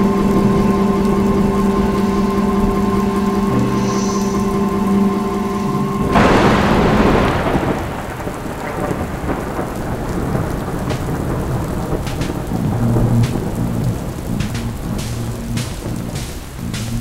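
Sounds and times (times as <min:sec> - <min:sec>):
sharp drips: 0:00.0 - 0:17.0
steady rain: 0:00.0 - 0:17.0
thunderclap: 0:00.0 - 0:17.0.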